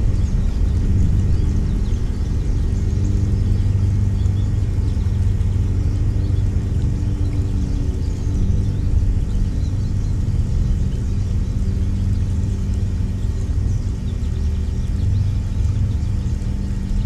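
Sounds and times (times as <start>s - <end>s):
low mechanical rumble and hum: 0.0s - 17.0s
small birds chirping: 0.0s - 17.0s.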